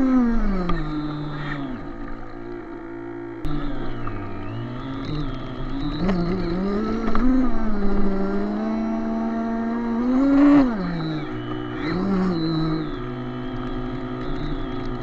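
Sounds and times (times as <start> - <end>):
model boat motor revving: 0.0 - 15.0.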